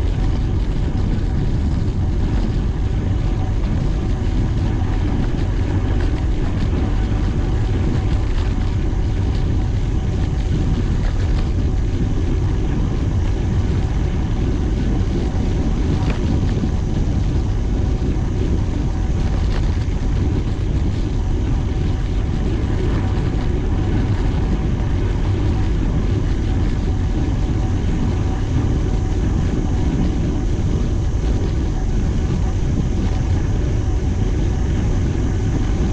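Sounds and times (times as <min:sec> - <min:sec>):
wind and road noise rumble: 0:00.0 - 0:35.9.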